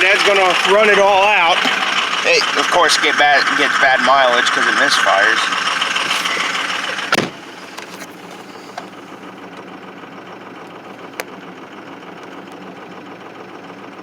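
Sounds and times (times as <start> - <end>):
diesel engine idling rough: 0.0 - 14.0.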